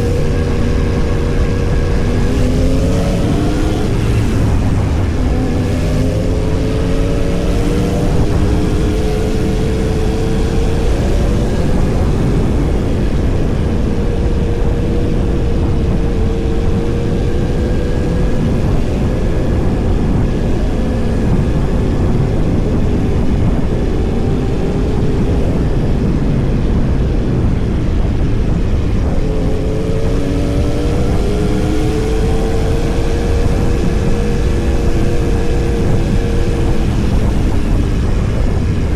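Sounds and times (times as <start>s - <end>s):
motorcycle engine revving: 0.0s - 38.9s
rushing noise: 0.0s - 38.9s.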